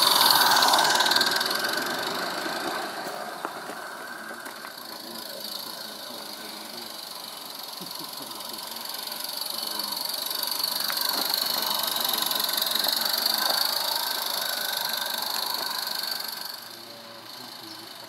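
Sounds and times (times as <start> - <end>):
model train running past: 0.0 - 18.0.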